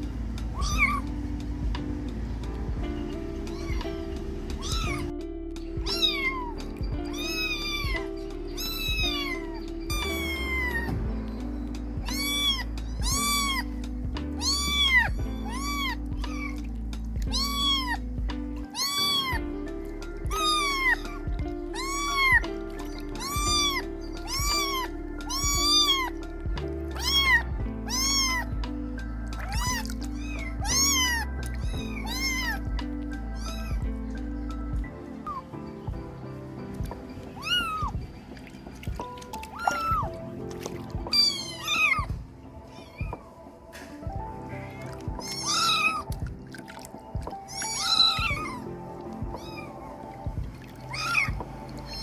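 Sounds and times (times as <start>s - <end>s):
kitten meowing: 0.0s - 1.3s, 2.7s - 5.1s, 5.8s - 11.4s, 12.0s - 35.6s, 36.7s - 38.1s, 38.8s - 43.3s, 44.7s - 46.6s, 47.2s - 52.0s
background music: 0.0s - 52.0s.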